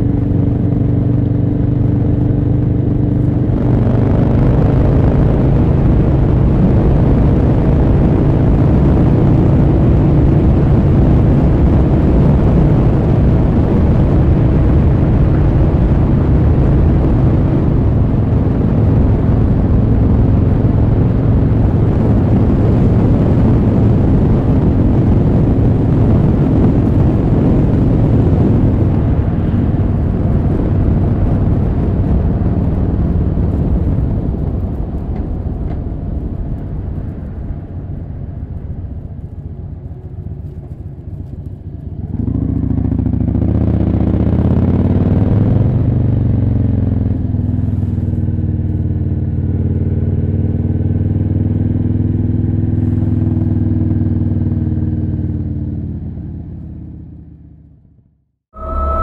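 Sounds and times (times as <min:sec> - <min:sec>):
wind noise: 0:00.0 - 0:54.5, 0:58.5 - 0:59.0
motorcycle engine running: 0:00.0 - 0:58.0.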